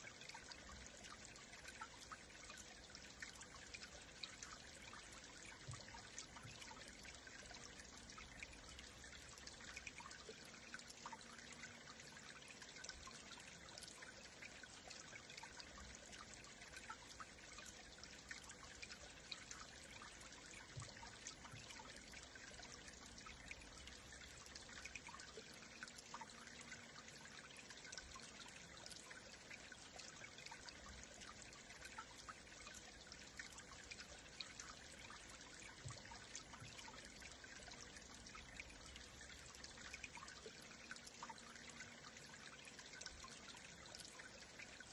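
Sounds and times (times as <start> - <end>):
water trickling and splashing: 0.0 - 44.9.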